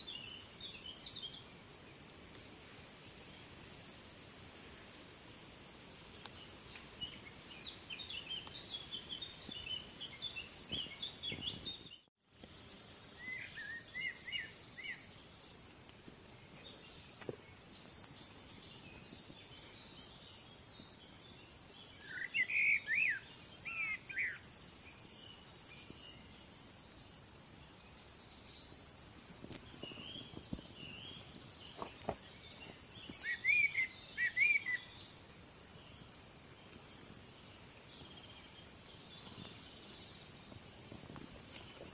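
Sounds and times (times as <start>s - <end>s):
songbirds singing: 0.0s - 41.9s
steady outdoor hiss: 0.0s - 41.9s.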